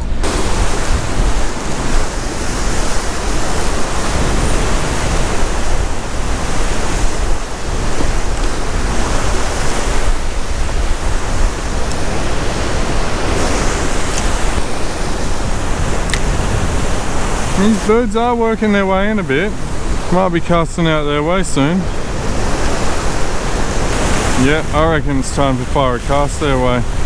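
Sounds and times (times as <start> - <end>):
ocean waves breaking on rocks: 0.0 - 27.0
wind rumbling on microphone: 0.0 - 27.0.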